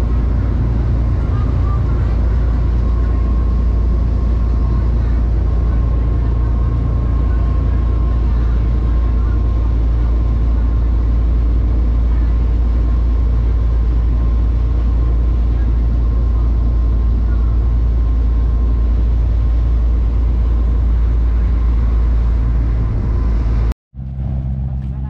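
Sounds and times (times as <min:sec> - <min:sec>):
moving vehicle rumble: 0:00.0 - 0:25.0.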